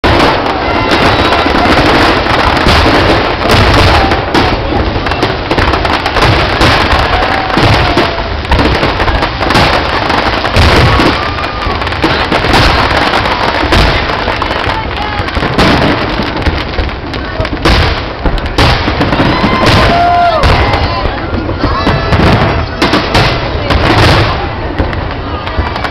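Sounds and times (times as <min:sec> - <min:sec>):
fireworks booming and crackling: 0:00.0 - 0:25.9.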